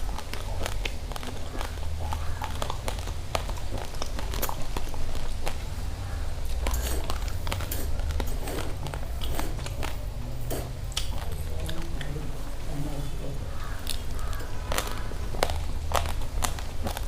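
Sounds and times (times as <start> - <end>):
rice grains crunched and chewed: 0.0 - 17.0.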